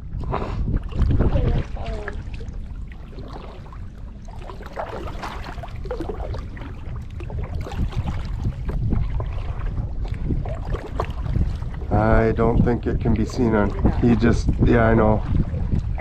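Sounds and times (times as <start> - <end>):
wind on microphone: 0.0 - 16.0
paddle splashing in water: 0.1 - 16.0.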